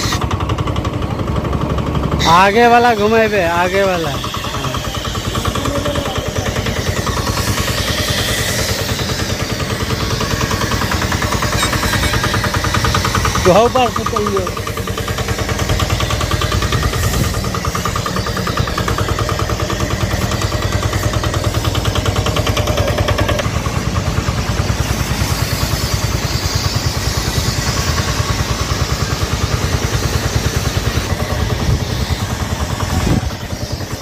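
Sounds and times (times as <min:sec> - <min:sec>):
engine running: 0:00.0 - 0:34.0
spray gun hissing: 0:02.2 - 0:34.0.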